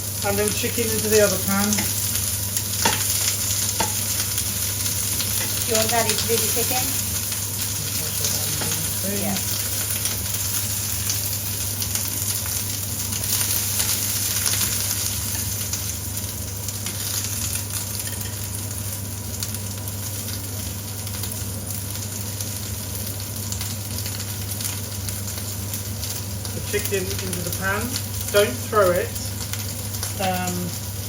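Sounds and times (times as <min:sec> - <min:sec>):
onions sizzling in a frying pan: 0:00.0 - 0:31.0.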